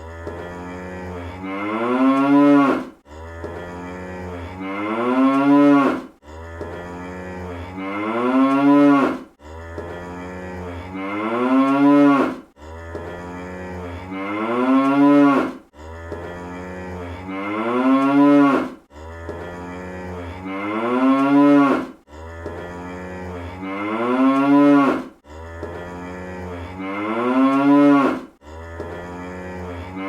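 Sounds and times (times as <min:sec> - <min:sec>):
cartoon cow moo: 0:00.0 - 0:30.0.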